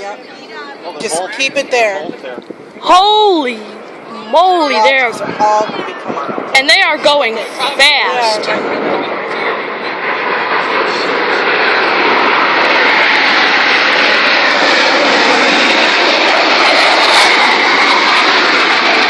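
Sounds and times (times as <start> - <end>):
jets flying past: 0.0 - 19.0.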